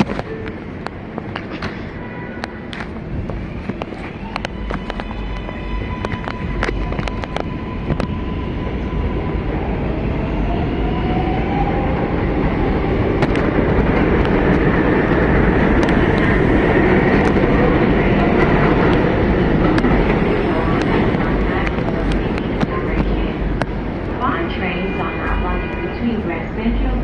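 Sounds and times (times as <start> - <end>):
subway train rumble and rattle: 0.0 - 27.0.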